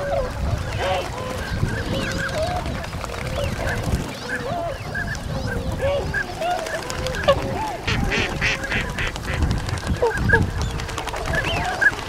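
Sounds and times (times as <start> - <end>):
swans honking: 0.0 - 10.5
ducks quacking: 0.0 - 12.0.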